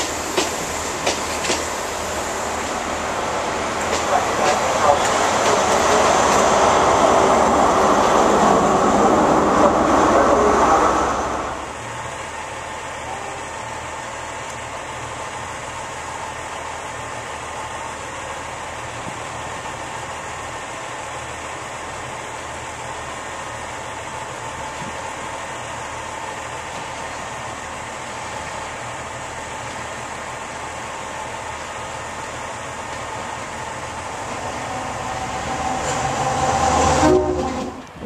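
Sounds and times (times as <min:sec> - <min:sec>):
low diesel engine hum: 0:00.0 - 0:38.0
passing train: 0:00.0 - 0:38.0.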